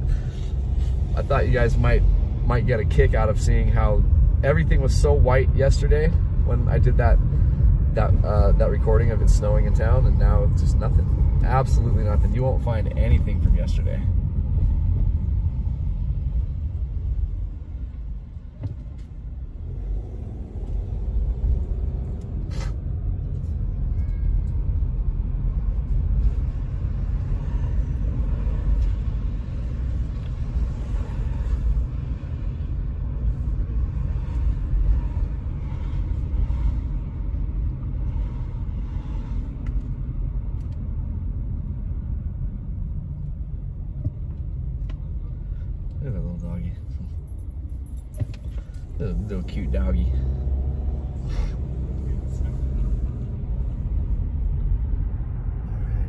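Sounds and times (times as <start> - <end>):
car driving heard from inside: 0.0 - 56.0.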